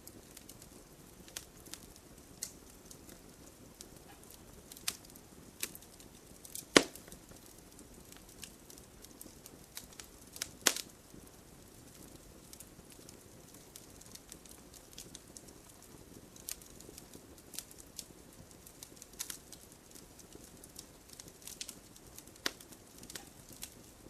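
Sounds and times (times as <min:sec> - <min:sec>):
faint steady hiss: 0:00.0 - 0:24.0
fire crackling and popping: 0:00.0 - 0:24.0.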